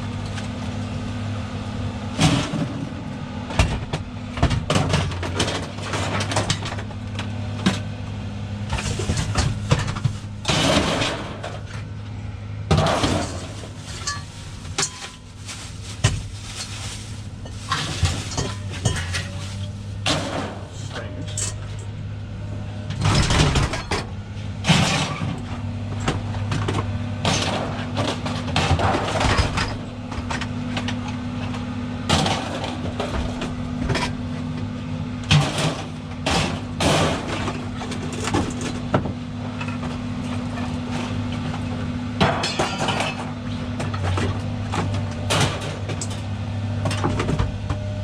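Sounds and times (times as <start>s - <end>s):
vehicle engine running: 0.0s - 42.4s
scrap metal clanking and crashing: 2.1s - 7.9s, 8.7s - 12.0s, 12.7s - 22.0s, 22.8s - 47.8s.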